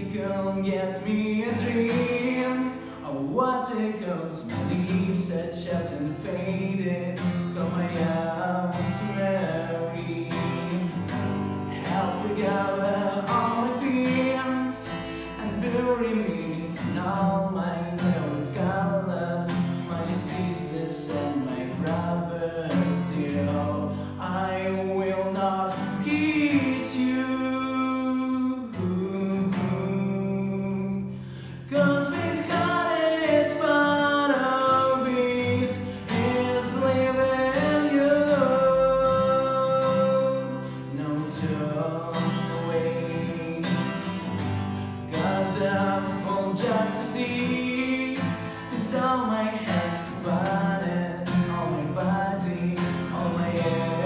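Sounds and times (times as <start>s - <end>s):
person singing: 0.0s - 44.4s, 45.0s - 54.0s
strummed acoustic guitar: 0.0s - 54.0s.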